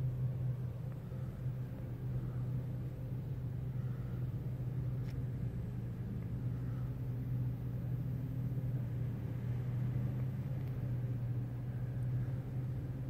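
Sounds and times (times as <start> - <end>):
car engine hum from inside: 0.0 - 13.0.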